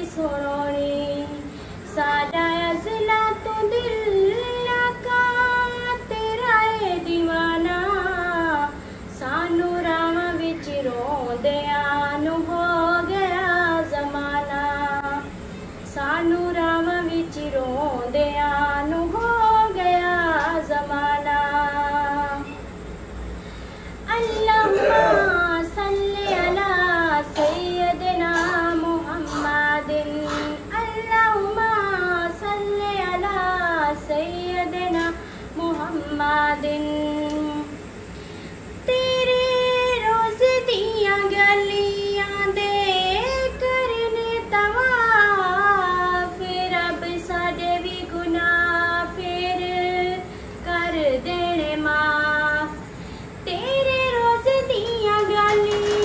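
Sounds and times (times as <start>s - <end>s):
woman singing unaccompanied: 0.0s - 22.7s, 24.0s - 37.9s, 38.7s - 56.0s.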